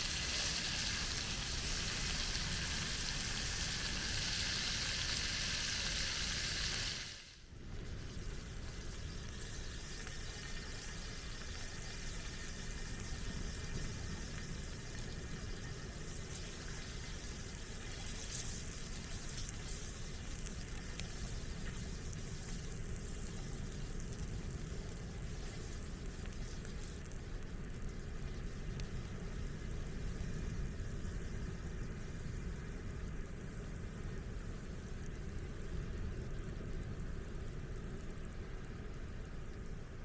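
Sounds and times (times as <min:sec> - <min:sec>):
food sizzling in a pan: 0:00.0 - 0:33.1
faint fire crackles: 0:00.0 - 0:40.0.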